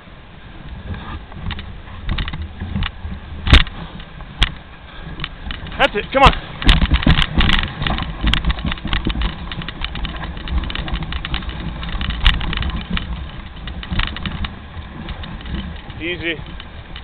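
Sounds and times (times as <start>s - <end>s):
sled runners rumbling on snow: 0.0s - 17.0s
sled clicking and knocking: 0.6s - 17.0s.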